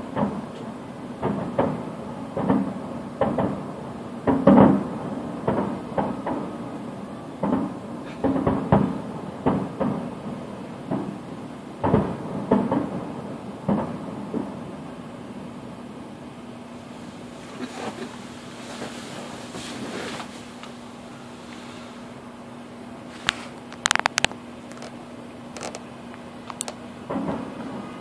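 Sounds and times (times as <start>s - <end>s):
fireworks booming: 0.0s - 28.0s.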